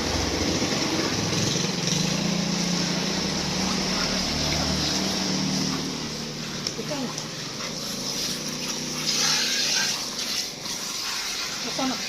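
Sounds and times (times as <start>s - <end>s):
small motor running: 0.9s - 12.0s.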